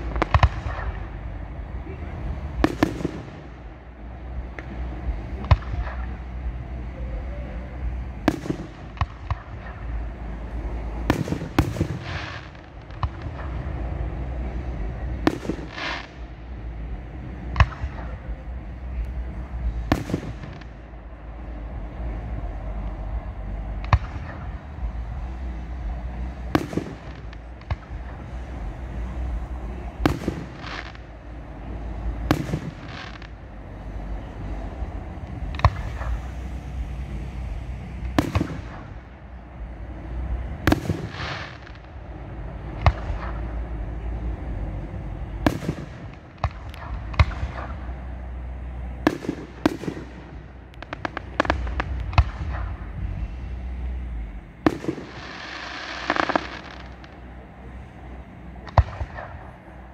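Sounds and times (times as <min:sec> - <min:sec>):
fireworks bangs: 0:00.0 - 0:59.9
steady low rumble: 0:00.0 - 0:59.9.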